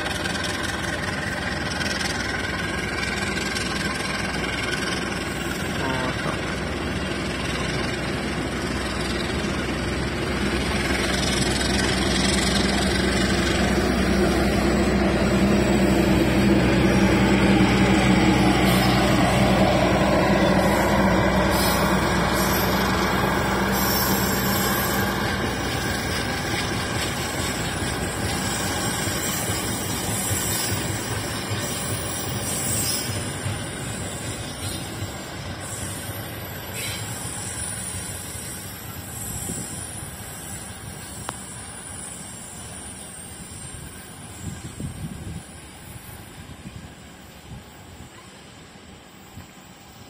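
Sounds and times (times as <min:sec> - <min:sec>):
diesel locomotive running: 0:00.0 - 0:50.0.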